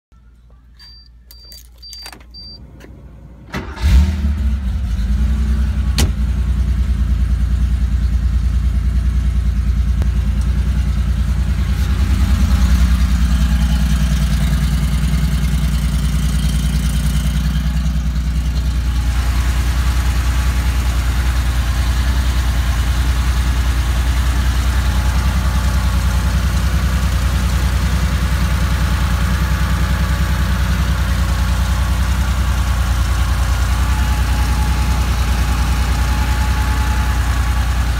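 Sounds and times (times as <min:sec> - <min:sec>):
car engine starting and idling: 0:00.5 - 0:37.9.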